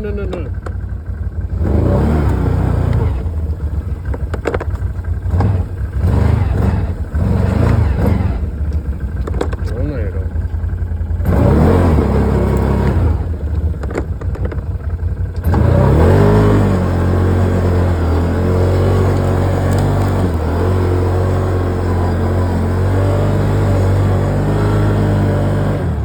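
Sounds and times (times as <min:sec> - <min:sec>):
vehicle engine revving hard: 0:01.5 - 0:04.6, 0:05.2 - 0:10.3, 0:11.2 - 0:14.6, 0:15.3 - 0:26.0.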